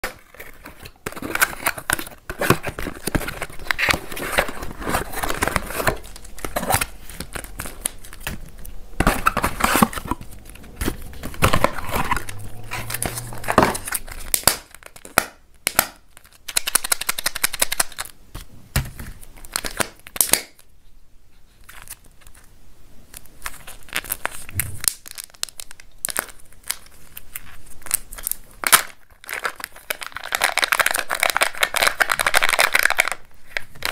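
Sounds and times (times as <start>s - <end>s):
packaging crinkling and tearing: 0.0s - 20.7s, 21.6s - 22.5s, 23.1s - 33.9s.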